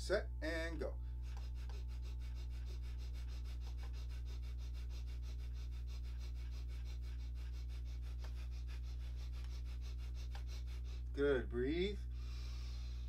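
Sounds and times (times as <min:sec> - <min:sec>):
steady low hum: 0:00.0 - 0:13.0
rapid breathing through nose: 0:01.0 - 0:11.4, 0:12.0 - 0:13.0.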